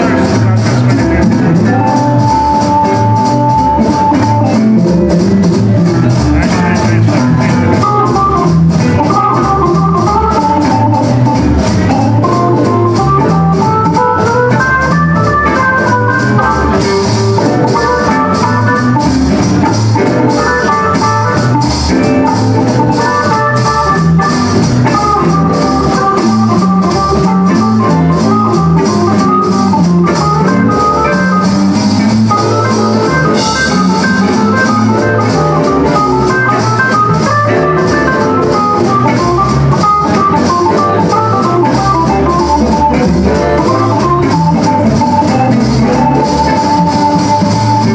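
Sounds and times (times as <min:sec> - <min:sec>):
bass line: 0:00.0 - 0:47.9
drums: 0:00.0 - 0:47.9
organ playing lead line: 0:00.0 - 0:47.9.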